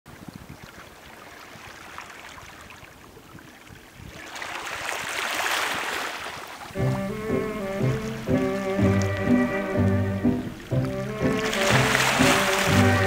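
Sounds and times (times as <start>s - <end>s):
water lapping gently: 0.1s - 13.0s
small wave washing in: 0.8s - 13.0s.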